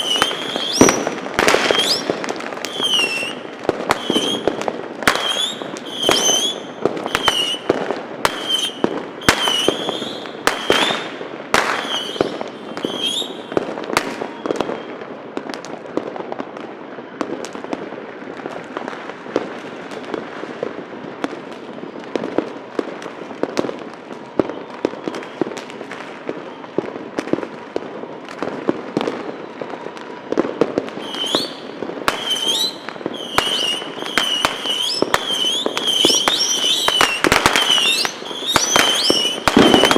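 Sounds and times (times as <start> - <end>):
firecracker pops and crackles: 0.0 - 39.9
fireworks bangs: 0.0 - 39.9.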